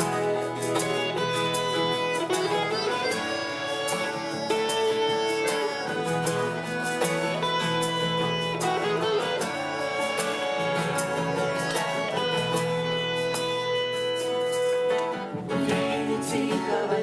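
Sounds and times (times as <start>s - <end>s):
guitar sustained chords: 0.0s - 17.0s.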